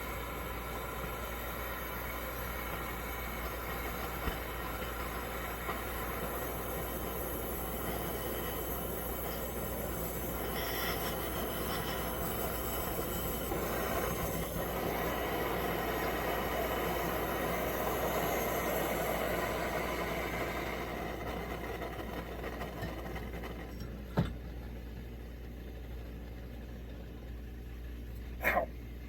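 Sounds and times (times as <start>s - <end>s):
stove burner hissing: 0.0s - 29.0s.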